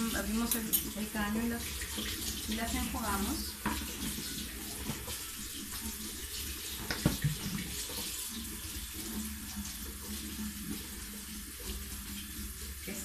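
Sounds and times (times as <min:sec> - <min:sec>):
tap water splashing into sink: 0:00.0 - 0:13.0.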